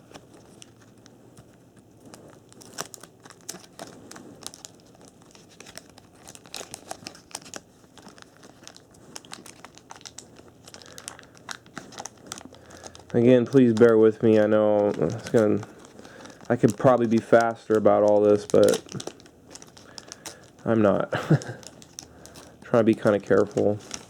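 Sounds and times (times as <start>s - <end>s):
wax paper wrapper crinkling: 0.0s - 24.0s.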